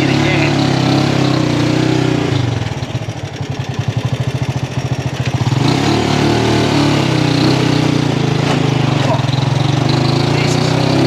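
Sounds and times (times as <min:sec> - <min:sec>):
motorcycle engine labouring uphill: 0:00.0 - 0:11.0.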